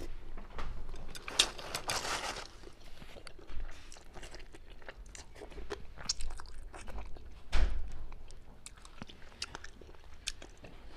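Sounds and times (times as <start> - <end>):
close chewing and biting: 0.9 - 10.9.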